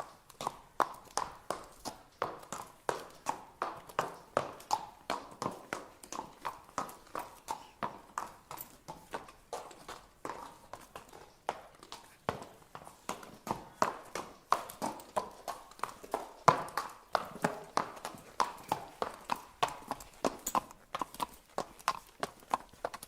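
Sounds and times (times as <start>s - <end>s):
horse hooves clip-clopping: 0.0s - 23.0s.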